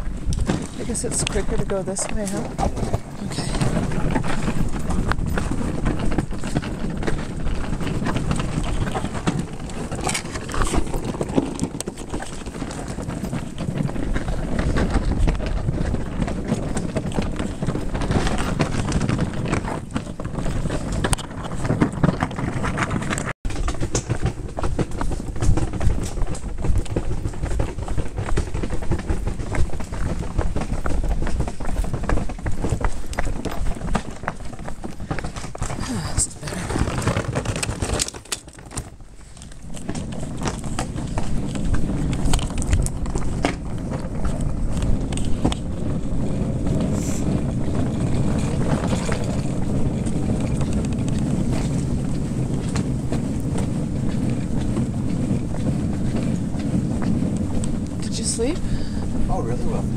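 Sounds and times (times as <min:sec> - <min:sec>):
footsteps: 0:00.0 - 0:59.9
steady rumbling clatter: 0:00.0 - 0:59.9.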